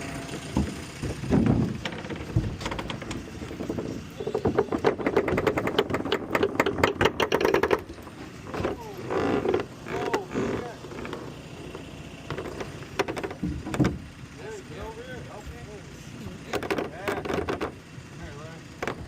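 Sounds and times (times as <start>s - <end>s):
rapid rattling clatter: 0.0s - 19.0s.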